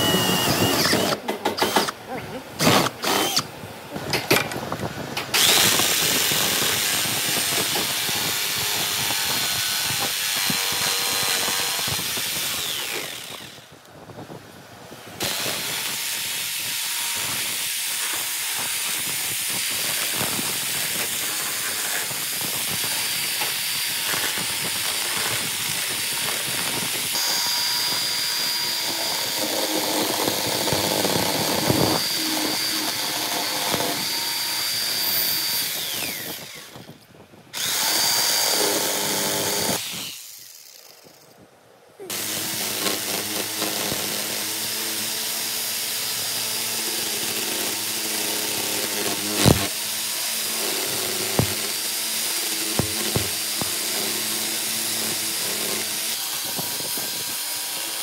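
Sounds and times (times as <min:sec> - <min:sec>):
drill boring into plywood: 0:00.0 - 0:02.0, 0:02.6 - 0:03.5, 0:05.3 - 0:13.8, 0:15.2 - 0:37.0, 0:37.6 - 0:41.3, 0:42.1 - 0:58.0
jigsaw cutting plywood: 0:00.0 - 0:04.5, 0:05.2 - 0:13.7, 0:15.2 - 0:37.0, 0:37.6 - 0:41.3, 0:42.0 - 0:58.0.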